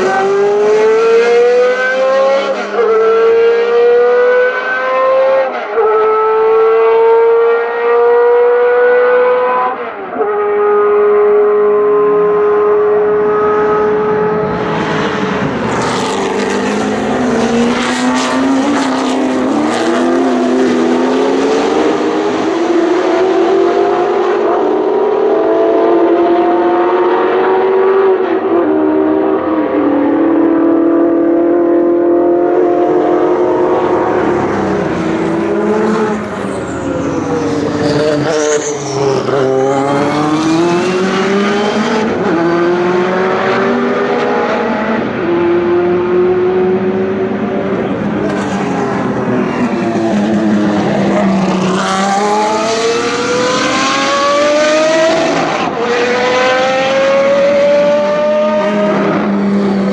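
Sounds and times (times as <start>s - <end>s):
car braking and downshifting: 0.0s - 59.9s
racing car engines accelerating: 0.0s - 59.9s.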